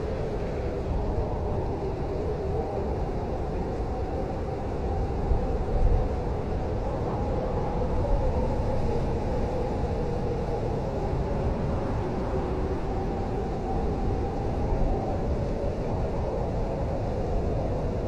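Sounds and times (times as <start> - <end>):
howling blizzard wind: 0.0 - 18.0.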